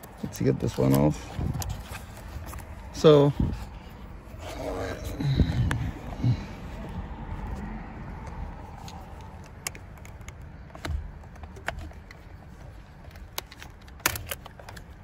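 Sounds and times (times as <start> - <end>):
low steady rumble: 0.6 - 13.9.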